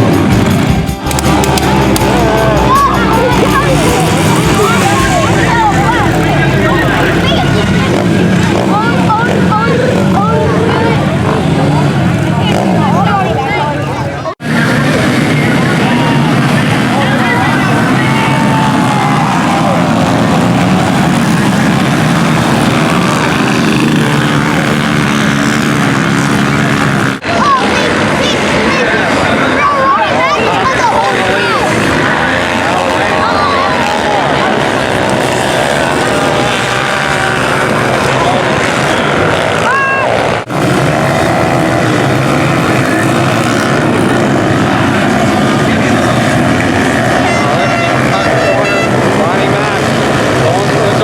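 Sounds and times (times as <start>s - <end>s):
pit bike engines revving: 0.0s - 51.0s.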